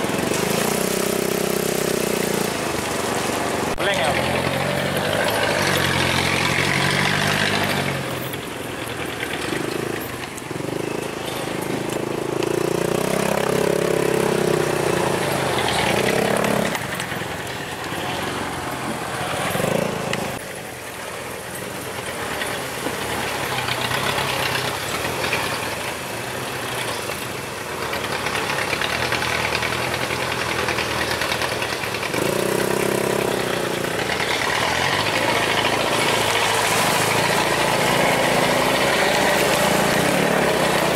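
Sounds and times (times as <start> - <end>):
truck diesel engine revving: 0.0 - 20.7, 21.9 - 40.9.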